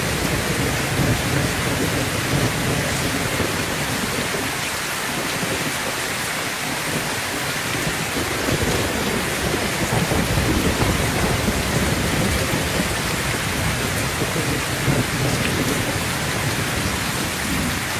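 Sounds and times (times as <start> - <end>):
rolling thunder: 0.0 - 4.3, 7.7 - 17.9
heavy rain on a roof: 0.0 - 17.9.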